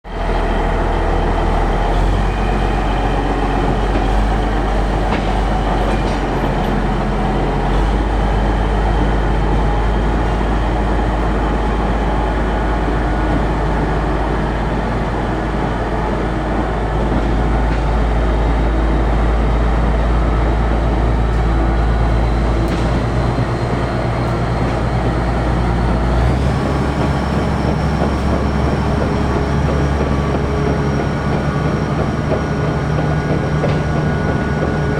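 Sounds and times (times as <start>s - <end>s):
heavy machinery rumble: 0.0s - 34.9s
machinery hums: 0.1s - 34.9s.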